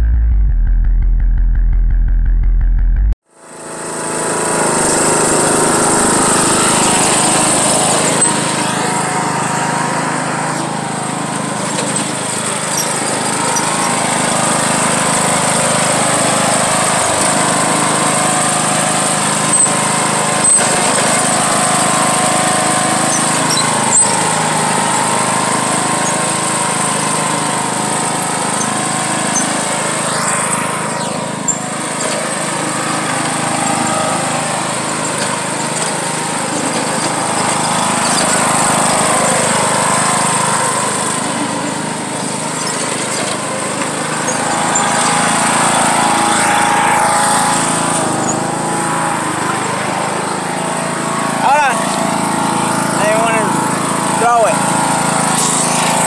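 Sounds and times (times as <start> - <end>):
lawn mower engine running: 3.2 - 56.0.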